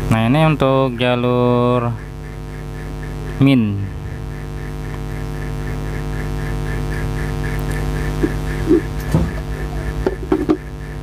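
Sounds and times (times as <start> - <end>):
electrical mains hum: 0.0 - 11.0
faint pulsing buzz: 0.0 - 11.0.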